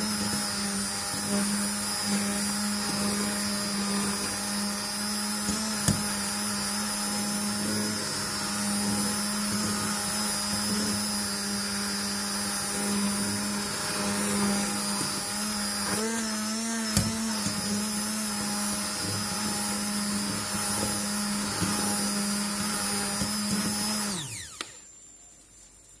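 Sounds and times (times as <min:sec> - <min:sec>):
immersion blender motor whine: 0:00.0 - 0:25.0.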